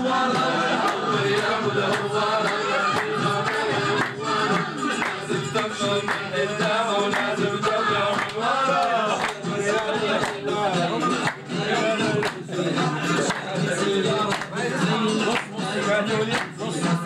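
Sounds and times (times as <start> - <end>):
hand-clapping to the beat: 0.0 - 17.0
people singing together: 0.0 - 17.0.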